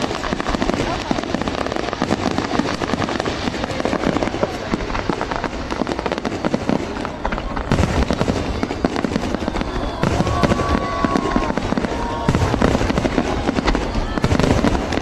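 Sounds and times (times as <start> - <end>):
firework whistling: 0.0 - 15.0
fireworks bangs and crackling: 0.0 - 15.0.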